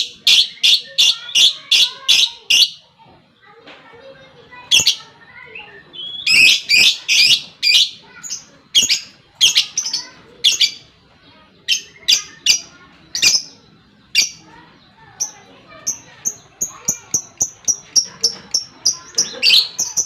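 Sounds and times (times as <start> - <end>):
lovebird chirping calls: 0.0 - 2.8, 4.6 - 10.9, 11.6 - 20.0.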